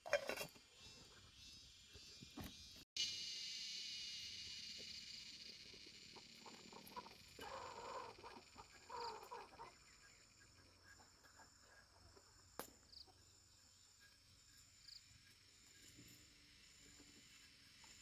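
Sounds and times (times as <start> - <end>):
insects trilling: 0.5 - 18.0.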